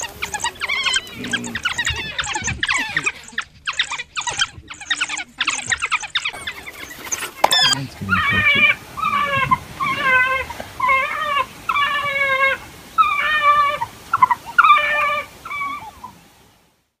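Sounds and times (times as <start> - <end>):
wild dogs whining calls: 0.0 - 16.2.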